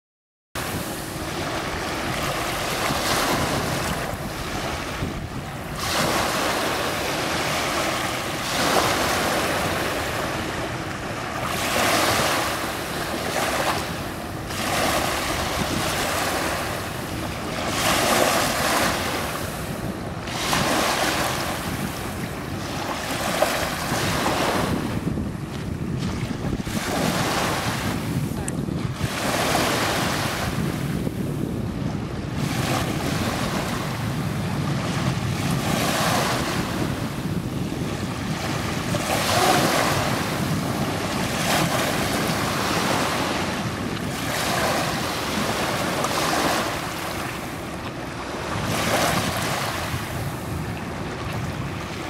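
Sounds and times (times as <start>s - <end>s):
small waves on a sandy beach: 0.6s - 52.0s.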